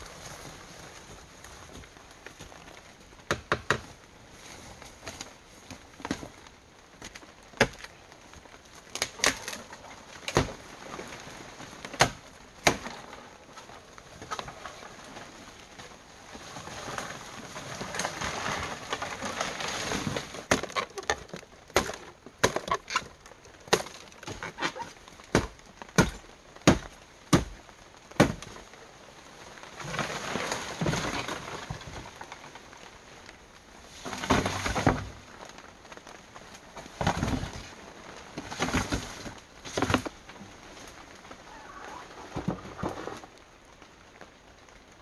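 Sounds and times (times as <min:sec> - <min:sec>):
brush rustling: 0:00.0 - 0:43.8.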